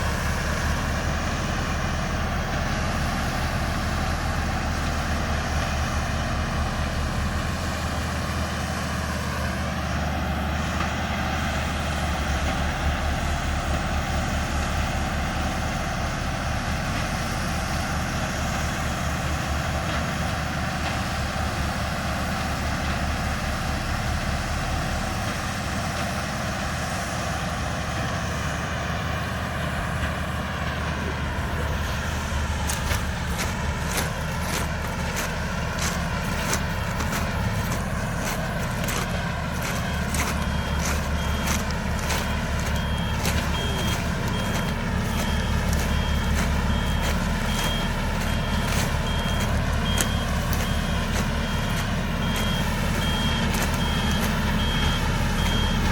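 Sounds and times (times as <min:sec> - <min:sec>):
heavy machinery engine humming: 0:00.0 - 0:55.9.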